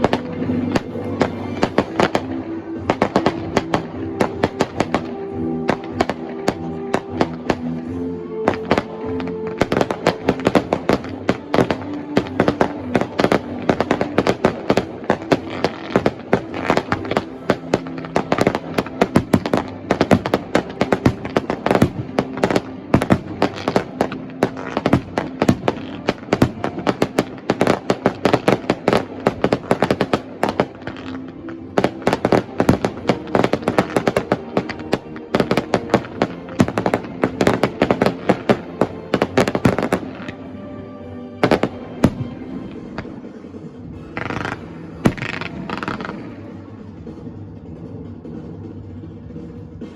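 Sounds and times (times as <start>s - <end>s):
fireworks bursting: 0.0s - 40.6s, 41.4s - 46.7s
music playing: 0.0s - 49.9s.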